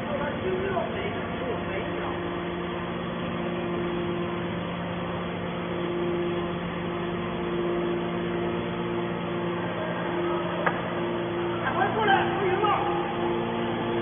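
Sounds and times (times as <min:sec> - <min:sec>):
hydraulic power unit humming: 0:00.0 - 0:14.0.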